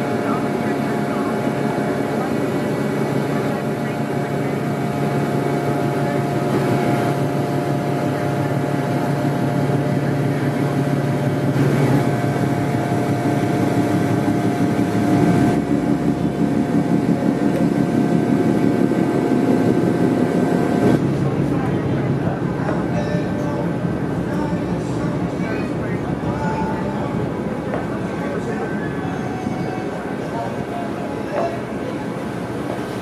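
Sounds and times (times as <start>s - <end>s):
deep rumble: 0.0s - 33.0s
ship diesel engines droning: 0.0s - 33.0s.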